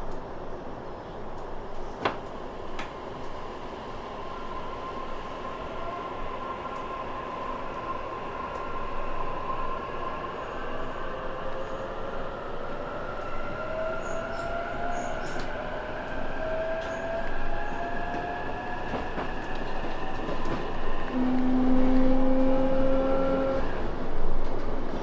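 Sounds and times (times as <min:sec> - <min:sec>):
train rumble and track noise: 0:00.0 - 0:25.0.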